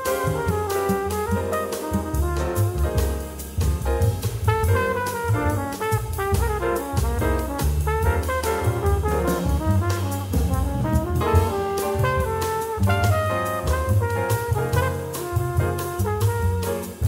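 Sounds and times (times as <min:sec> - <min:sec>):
bass line: 0:00.0 - 0:17.0
drum kit with cymbals: 0:00.0 - 0:17.0
jazz horn melody: 0:00.0 - 0:17.0.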